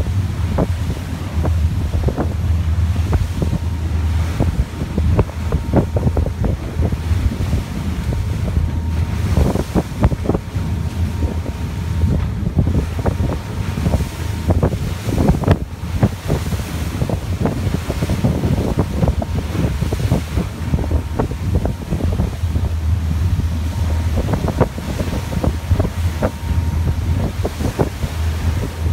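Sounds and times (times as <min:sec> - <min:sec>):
boat engine drone: 0:00.0 - 0:28.9
water rushing past hull: 0:00.0 - 0:28.9
wind buffeting microphone: 0:00.0 - 0:28.9.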